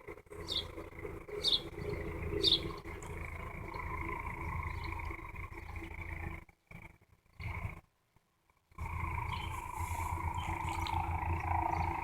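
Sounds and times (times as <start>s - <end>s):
low hum and rumble: 0.0s - 12.0s
small bird chirping: 0.4s - 7.8s, 9.0s - 12.0s.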